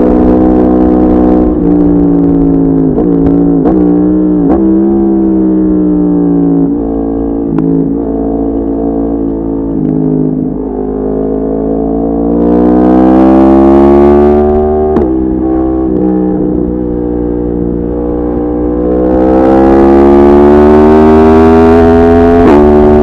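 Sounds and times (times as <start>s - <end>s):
motorcycle engine while riding: 0.0s - 23.0s.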